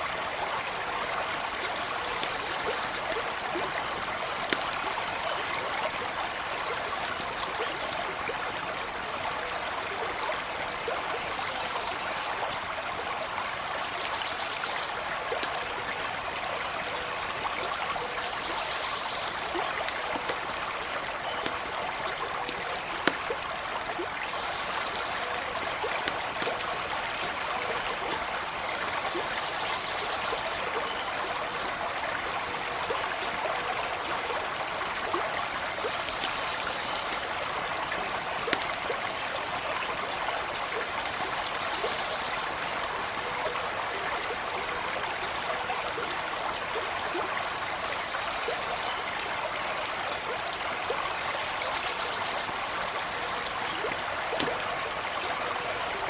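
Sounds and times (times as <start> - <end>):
campfire crackling: 0.0 - 56.0
stream running over stones: 0.0 - 56.0.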